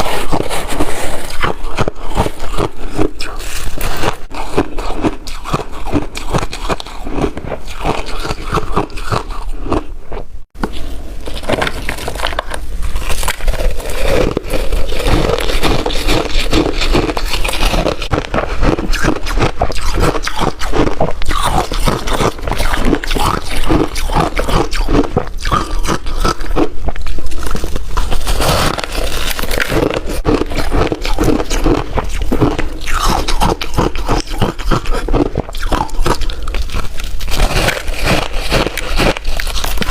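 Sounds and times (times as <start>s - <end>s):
ice being chewed: 0.0s - 9.9s, 10.6s - 39.9s.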